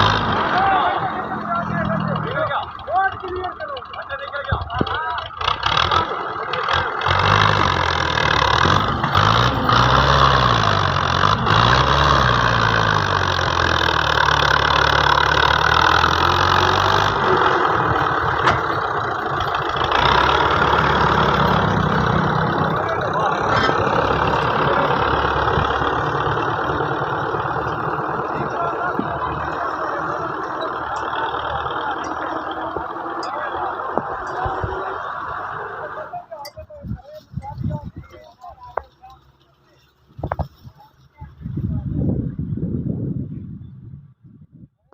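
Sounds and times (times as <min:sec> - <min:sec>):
tractor diesel engine running: 0:00.0 - 0:42.8.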